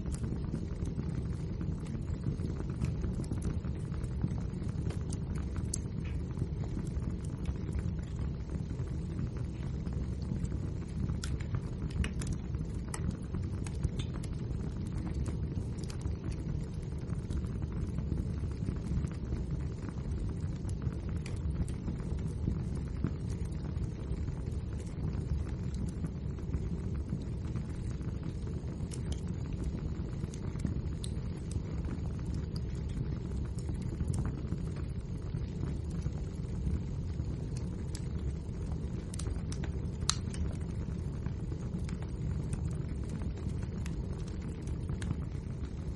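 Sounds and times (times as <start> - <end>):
crackles and pops from burning logs: 0.0 - 45.9
low rush of flame: 0.0 - 45.9.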